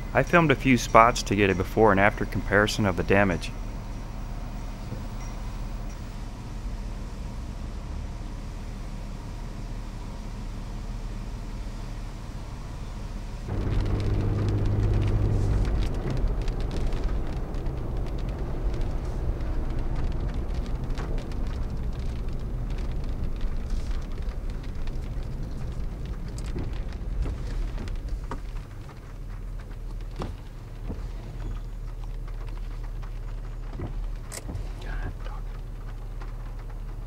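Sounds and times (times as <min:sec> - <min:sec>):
car engine hum: 0:00.0 - 0:37.0
road noise: 0:00.0 - 0:37.0.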